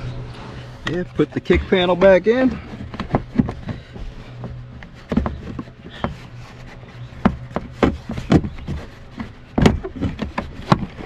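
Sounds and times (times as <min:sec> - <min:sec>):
plastic trim knocking and rubbing: 0:00.9 - 0:11.0.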